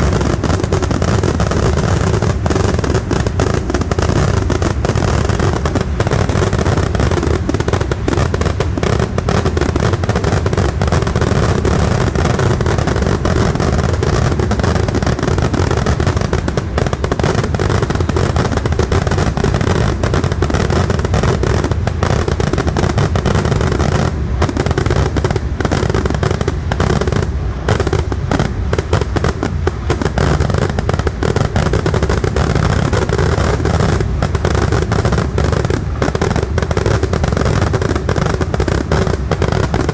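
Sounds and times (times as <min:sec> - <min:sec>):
fireworks barrage: 0:00.0 - 0:39.9.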